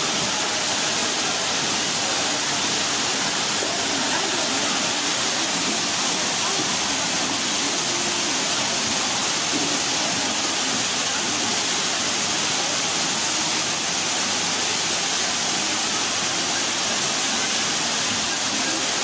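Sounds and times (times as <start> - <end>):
waterfall pouring into pool: 0.0 - 19.0.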